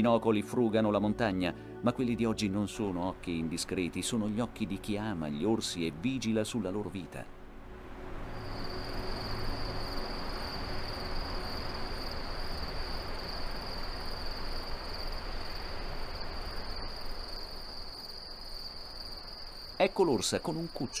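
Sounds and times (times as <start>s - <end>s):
soft steady hiss: 0.0s - 21.0s
crickets trilling: 1.9s - 21.0s.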